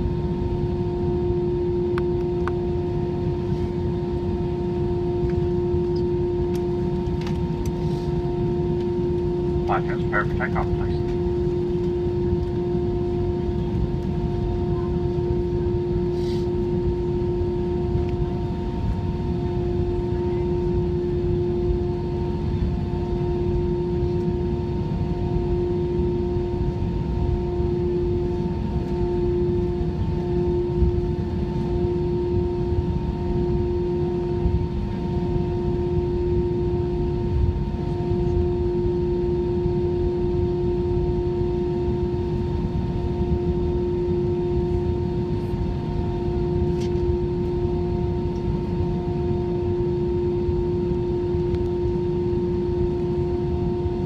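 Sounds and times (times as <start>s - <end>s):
aircraft cabin hum: 0.0s - 54.0s.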